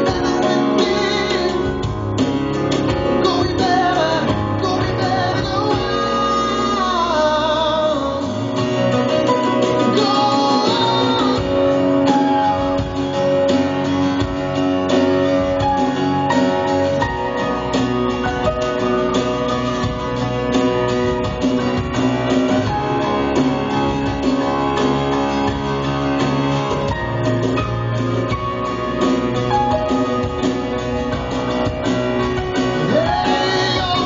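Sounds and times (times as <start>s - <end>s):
acoustic guitar: 0.0s - 34.0s
electric bass: 0.0s - 34.0s.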